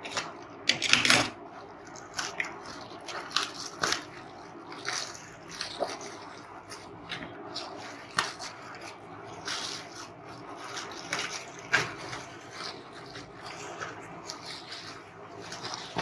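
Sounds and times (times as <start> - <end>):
plastic bag crinkling: 1.3 - 16.0.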